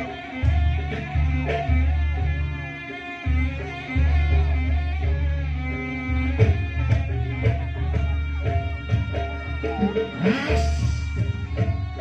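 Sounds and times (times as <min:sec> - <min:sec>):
live band music: 0:00.0 - 0:12.0.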